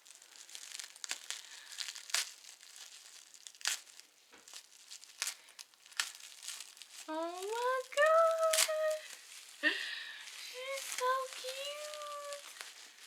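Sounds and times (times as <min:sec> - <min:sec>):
wrapping crinkling and rustling: 0:00.0 - 0:13.0.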